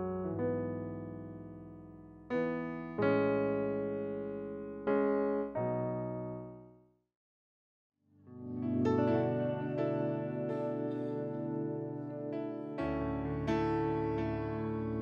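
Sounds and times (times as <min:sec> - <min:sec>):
electric piano chords: 0:00.0 - 0:06.7, 0:08.2 - 0:15.0.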